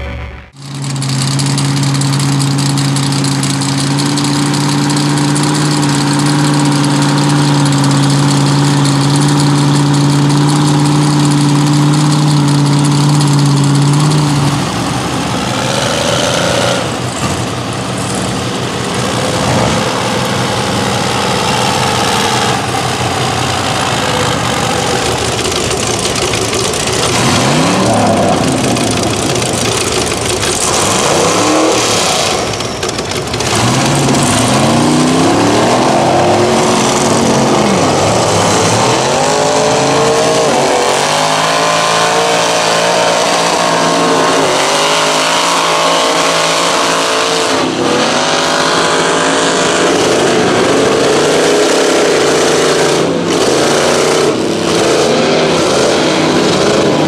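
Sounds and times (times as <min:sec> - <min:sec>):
engine revving: 0:00.0 - 0:57.0
truck engines idling: 0:00.0 - 0:57.0.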